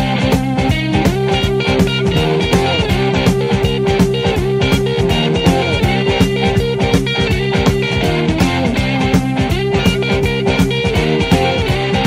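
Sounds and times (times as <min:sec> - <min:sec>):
guitar-led rock music: 0:00.0 - 0:12.0.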